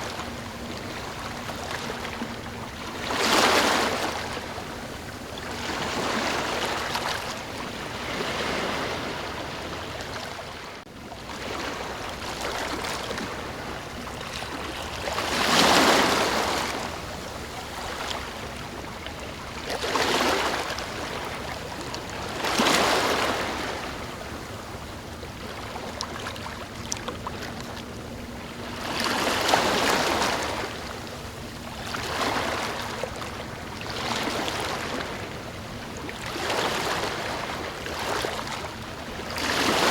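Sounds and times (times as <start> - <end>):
ocean waves surf: 0.0 - 39.9.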